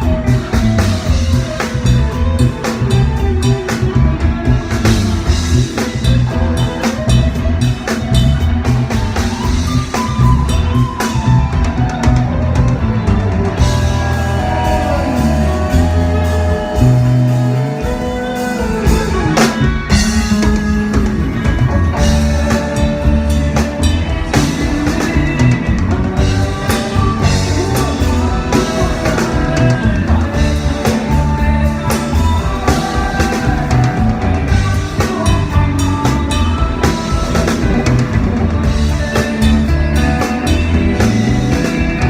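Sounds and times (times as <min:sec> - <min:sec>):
bass: 0:00.0 - 0:42.0
drum kit: 0:00.0 - 0:42.0.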